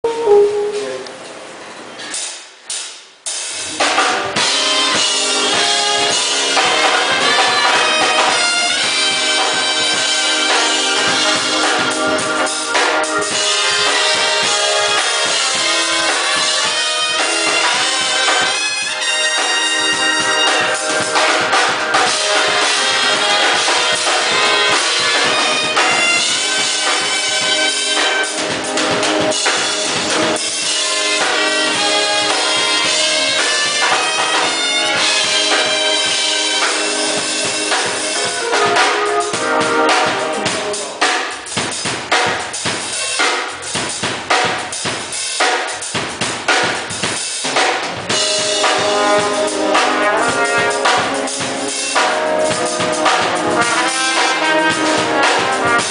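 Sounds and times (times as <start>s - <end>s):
music with pitched instruments: 2.1s - 55.9s.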